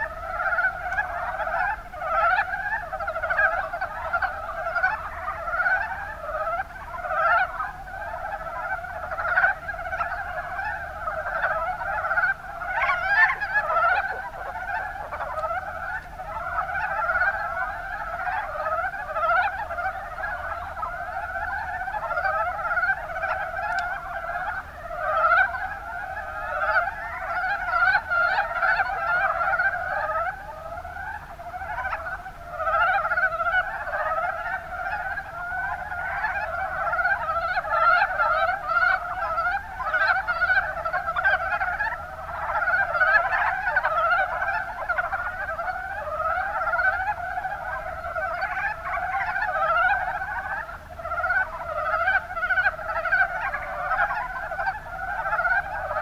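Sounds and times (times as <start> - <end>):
chorus of frogs croaking: 0.0 - 56.0.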